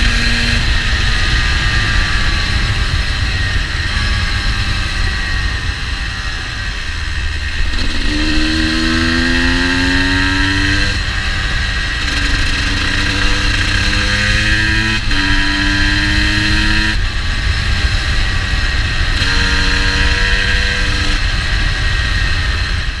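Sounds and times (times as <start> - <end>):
motorcycle engine pulling hard: 0.0 - 23.0
road rumble: 0.0 - 23.0
wind: 0.0 - 23.0.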